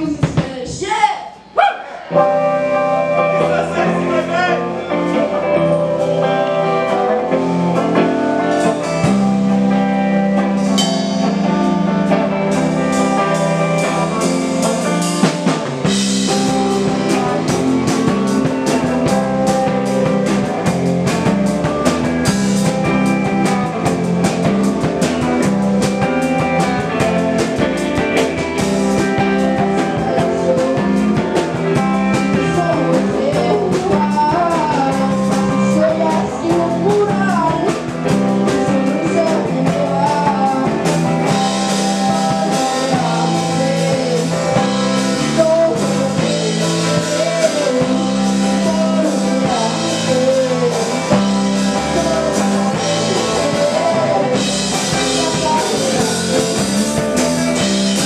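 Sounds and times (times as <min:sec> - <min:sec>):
drum kit: 0:00.0 - 0:58.0
live rock band: 0:00.0 - 0:58.0
electric guitars: 0:01.8 - 0:58.0.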